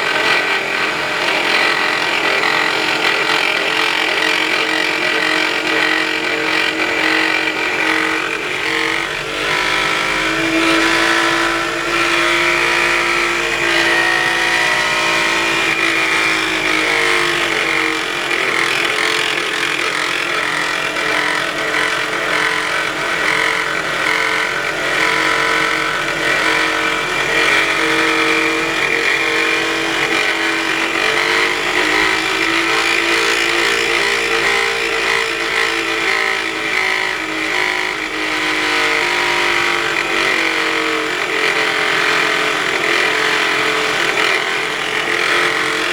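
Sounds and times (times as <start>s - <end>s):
engine whining drone: 0.0s - 45.9s.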